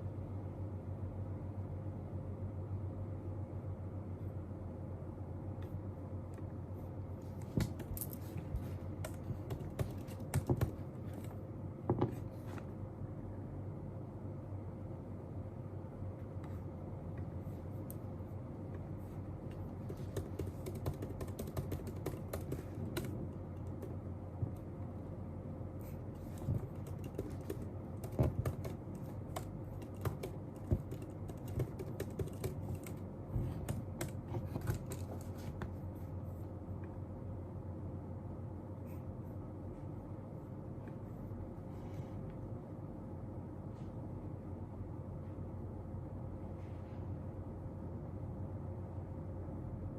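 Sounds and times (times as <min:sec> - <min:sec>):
low room hum: 0:00.0 - 0:49.9.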